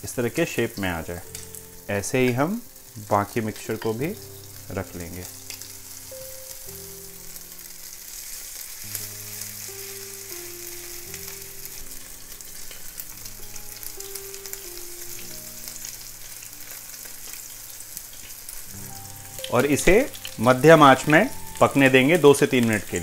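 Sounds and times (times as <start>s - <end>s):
fritters sizzling in oil: 0.0s - 23.0s.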